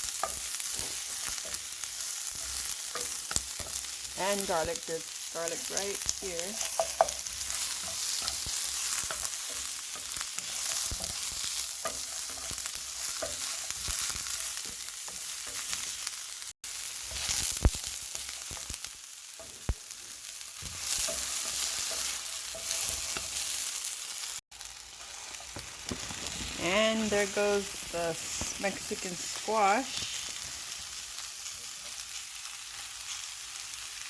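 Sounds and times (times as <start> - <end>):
onion sizzling in a pan: 0.0 - 34.0.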